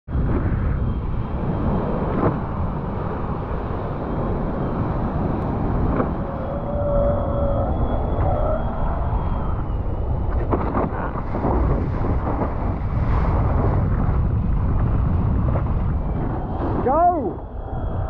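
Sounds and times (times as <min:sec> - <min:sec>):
wind buffeting microphone: 0:00.1 - 0:18.0.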